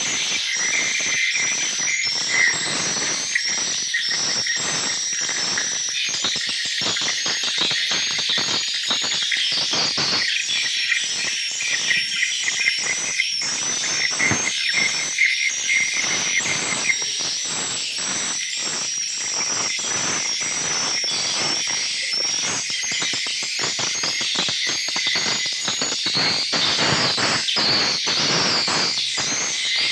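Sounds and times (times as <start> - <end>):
swiftlets chirping and trilling: 0.0 - 29.9.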